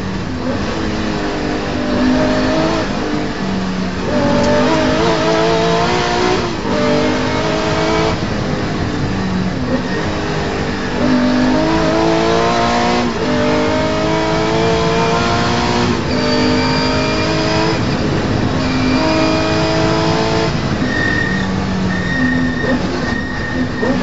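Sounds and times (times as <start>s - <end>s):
car engine accelerating and shifting gears: 0.0s - 24.0s.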